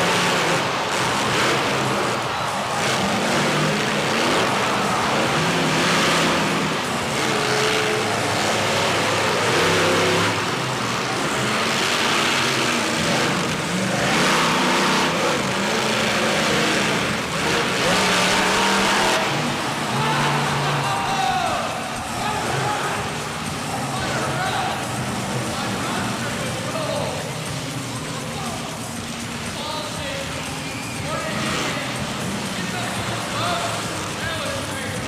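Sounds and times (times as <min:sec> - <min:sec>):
monster truck engine revving: 0:00.0 - 0:35.0
steady dense noise: 0:00.0 - 0:35.0.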